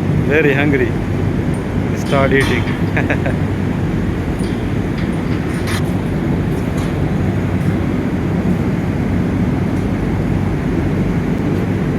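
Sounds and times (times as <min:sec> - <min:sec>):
low mechanical rumble: 0:00.0 - 0:11.9.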